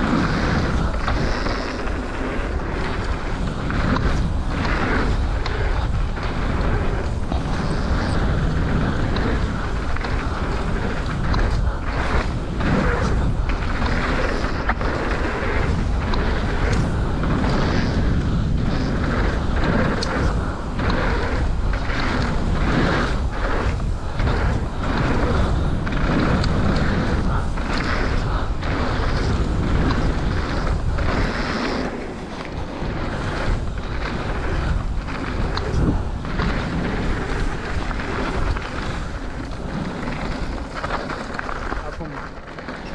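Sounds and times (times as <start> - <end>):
bike clattering over bumps: 0.0 - 42.9
bike tyre noise: 0.0 - 42.9
wind rumble on microphone: 0.0 - 42.9.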